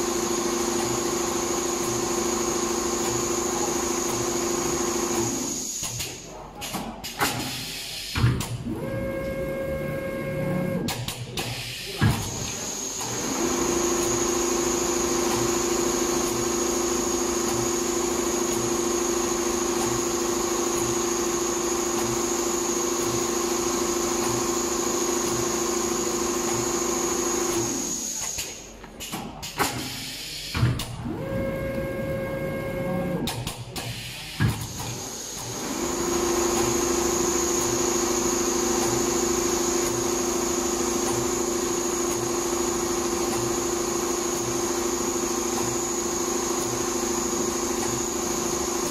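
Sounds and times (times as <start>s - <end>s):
sewing machine humming and whining: 0.0s - 5.8s, 8.7s - 10.9s, 12.3s - 28.4s, 31.0s - 33.3s, 34.7s - 48.9s.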